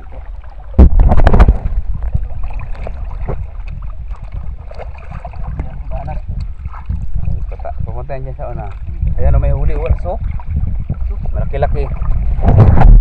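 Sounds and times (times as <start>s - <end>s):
water sloshing around legs: 0.0s - 12.8s
wind on microphone: 0.0s - 13.0s.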